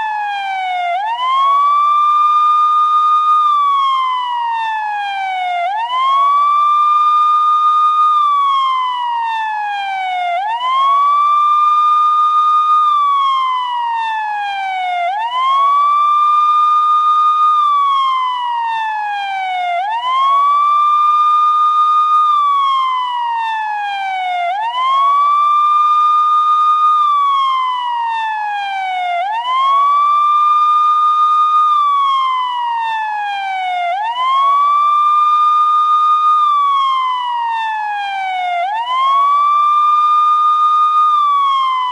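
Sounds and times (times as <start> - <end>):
emergency vehicle siren wailing: 0.0 - 41.9.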